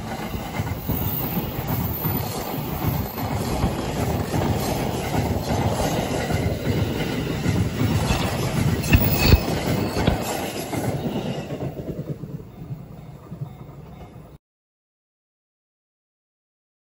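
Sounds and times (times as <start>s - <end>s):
wheels clacking over rail joints: 0.0s - 14.3s
train wheels rumbling: 0.0s - 14.4s.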